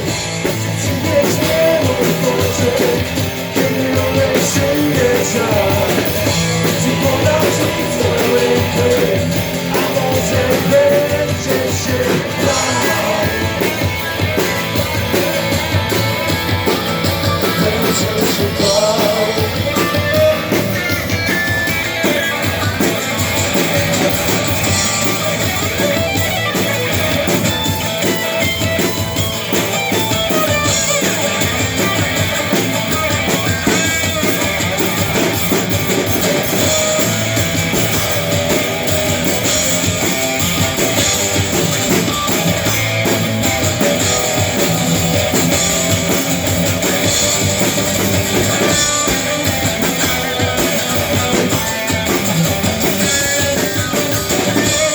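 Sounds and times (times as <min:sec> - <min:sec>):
drum kit beat: 0:00.0 - 0:54.9
electric guitars: 0:00.0 - 0:54.9.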